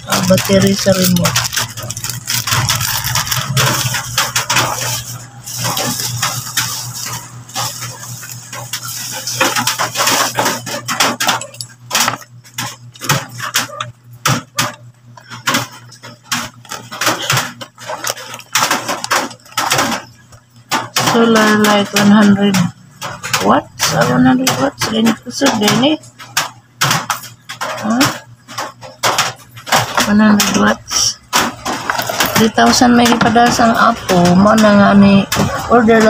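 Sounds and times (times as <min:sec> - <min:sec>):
plastic wrap crinkling: 0:00.0 - 0:36.0.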